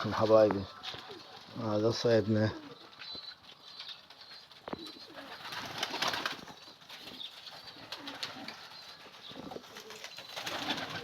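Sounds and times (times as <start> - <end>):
pigeons cooing softly: 0.0 - 11.0.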